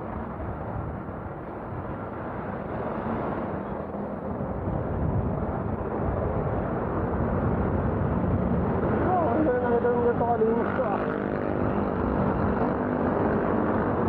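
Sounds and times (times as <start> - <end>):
city traffic: 0.0 - 14.0
wind on microphone: 0.0 - 14.0.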